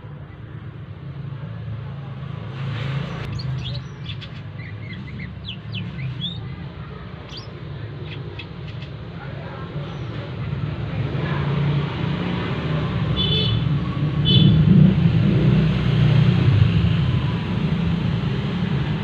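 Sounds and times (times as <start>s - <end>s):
traffic engine rumble: 0.0s - 19.0s.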